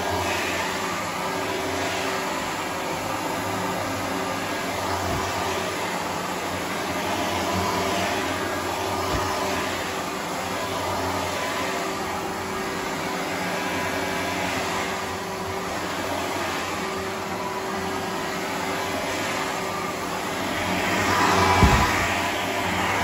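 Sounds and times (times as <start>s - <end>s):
vacuum cleaner on carpet: 0.0s - 23.0s.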